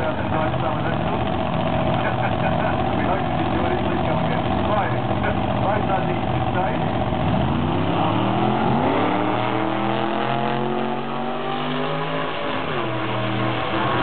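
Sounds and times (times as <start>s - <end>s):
racing engine accelerating: 0.0s - 14.0s.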